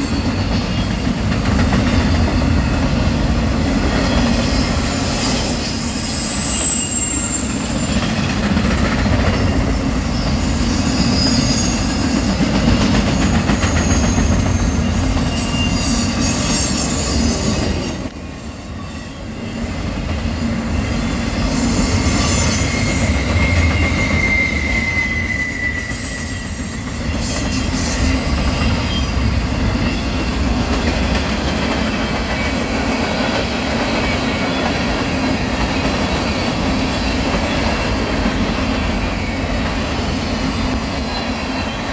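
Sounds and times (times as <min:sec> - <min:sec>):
train wheels squealing: 0:00.0 - 0:41.9.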